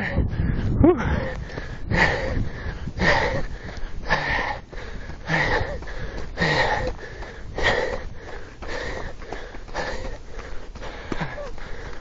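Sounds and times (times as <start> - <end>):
runner breathing heavily: 0.0 - 12.0.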